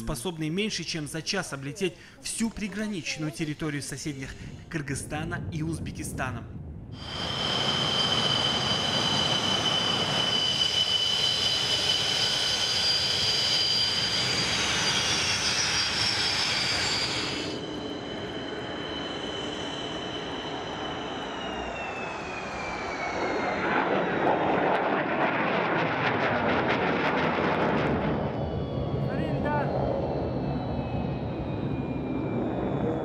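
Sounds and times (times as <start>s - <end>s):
jet engine whine: 0.0s - 33.0s
jet takeoff roar: 3.0s - 33.0s.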